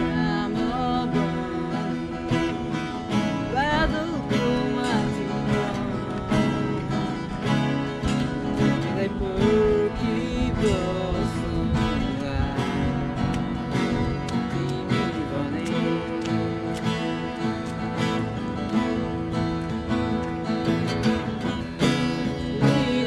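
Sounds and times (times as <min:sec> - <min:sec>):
acoustic guitars strumming: 0:00.0 - 0:23.0.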